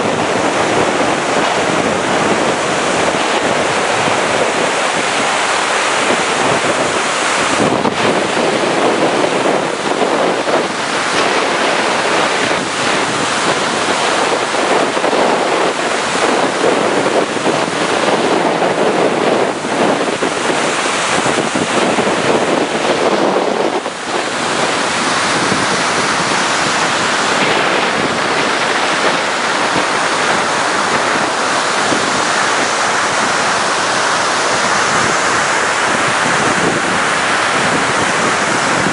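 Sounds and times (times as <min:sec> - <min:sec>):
floodwater rushing over concrete blocks: 0:00.0 - 0:38.9.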